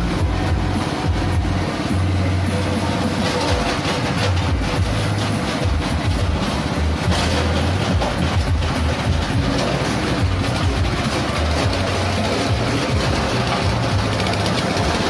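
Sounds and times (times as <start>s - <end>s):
small petrol engine drone: 0.0s - 15.0s.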